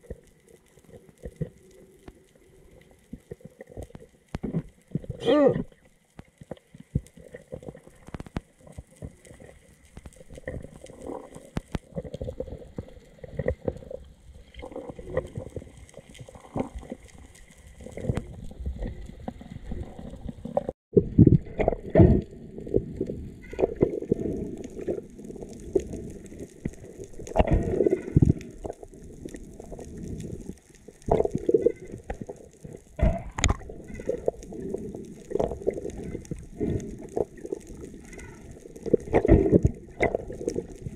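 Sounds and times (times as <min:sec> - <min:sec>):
water rushing and gurgling underwater: 0:00.0 - 0:40.9.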